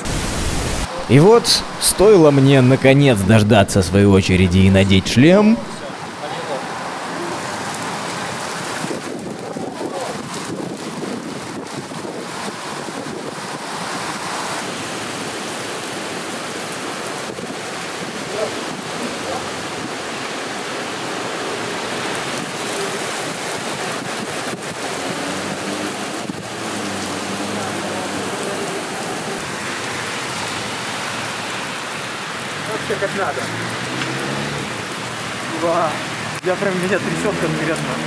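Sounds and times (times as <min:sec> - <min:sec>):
heavy rain on asphalt: 0:00.0 - 0:38.0.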